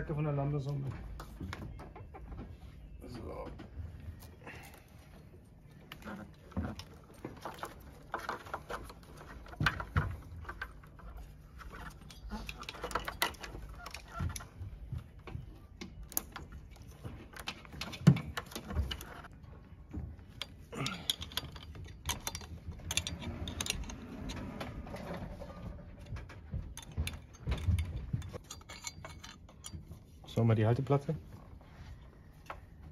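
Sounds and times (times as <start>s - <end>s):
clicks and rattles of small parts: 4.2s - 31.6s.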